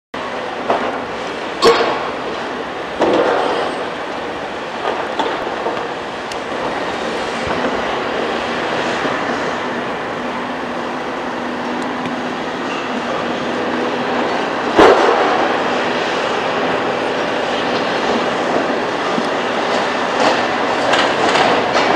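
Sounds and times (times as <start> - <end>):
excavator engine running: 0.2 - 21.9.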